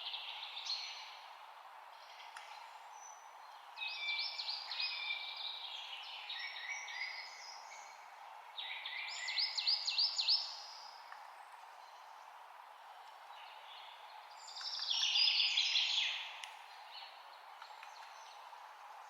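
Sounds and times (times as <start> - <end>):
songbirds chirping: 0.0 - 19.0
steady background hiss: 0.0 - 19.0.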